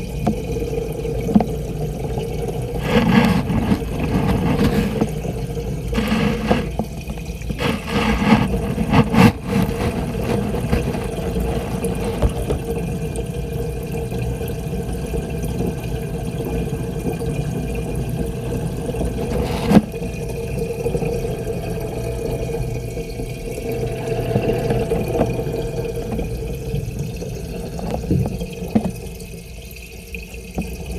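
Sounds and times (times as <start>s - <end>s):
aquarium filter pump humming: 0.0s - 30.9s
water wash: 0.0s - 30.9s.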